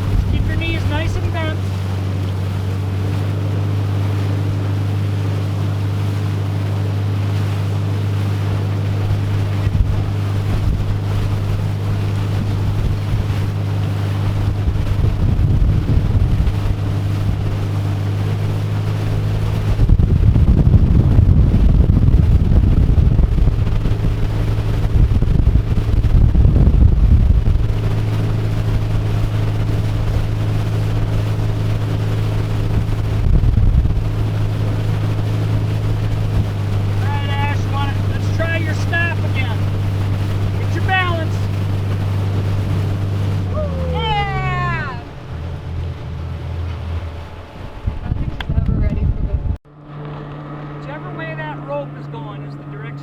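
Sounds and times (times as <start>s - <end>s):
wind buffeting microphone: 0.0s - 50.9s
motorboat engine droning: 0.0s - 53.0s.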